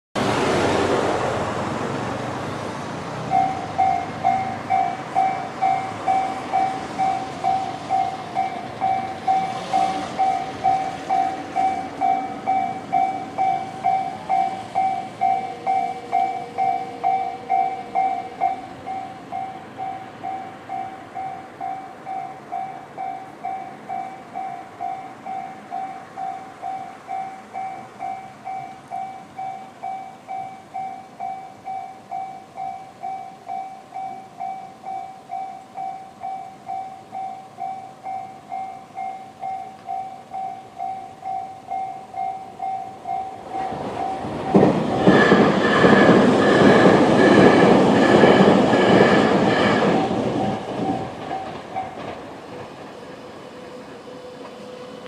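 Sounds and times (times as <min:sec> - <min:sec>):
level crossing alarm dinging: 0:03.3 - 0:44.8, 0:47.1 - 0:52.1.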